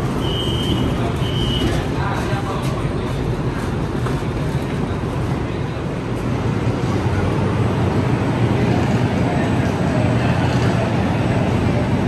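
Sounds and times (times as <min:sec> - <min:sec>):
train humming and rumbling: 0:00.0 - 0:12.0
faint voices: 0:00.8 - 0:12.0.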